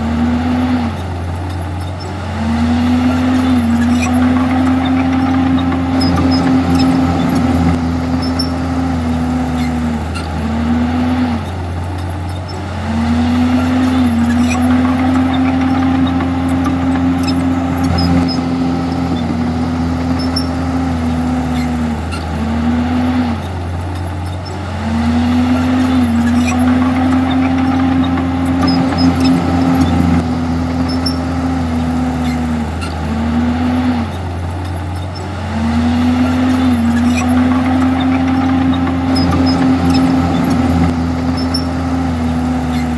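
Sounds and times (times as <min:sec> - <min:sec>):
bulldozer diesel engine running hard: 0:00.0 - 0:42.9.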